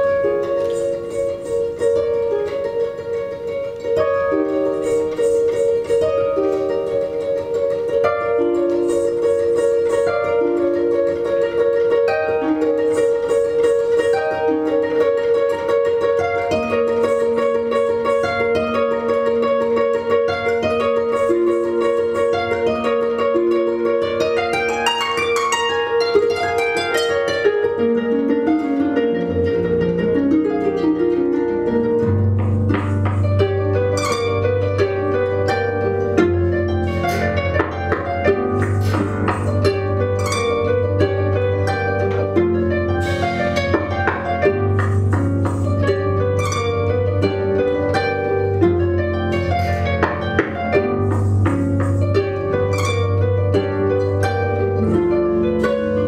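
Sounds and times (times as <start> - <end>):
harp bass notes ringing: 0.0 - 56.0
harps plucked: 0.0 - 56.0.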